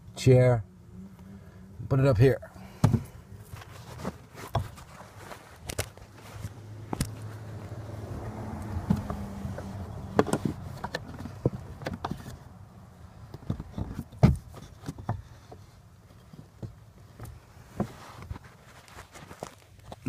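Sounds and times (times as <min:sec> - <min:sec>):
low steady hum: 0:00.0 - 0:19.6.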